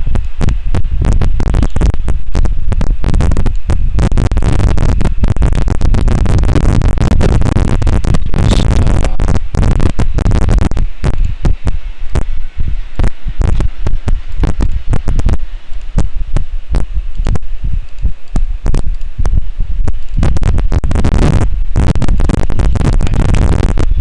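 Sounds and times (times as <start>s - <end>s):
low crackling rumble: 0.0s - 24.0s.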